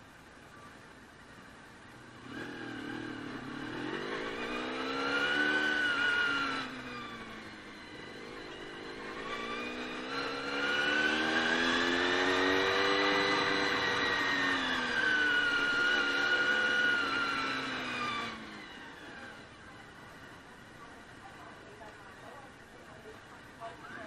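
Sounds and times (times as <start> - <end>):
motorcycle engine revving: 1.9 - 23.5.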